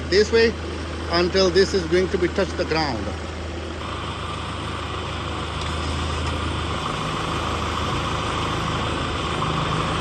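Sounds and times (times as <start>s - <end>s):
hydraulic whine: 0.0s - 10.0s
tractor diesel engine running: 0.0s - 10.0s.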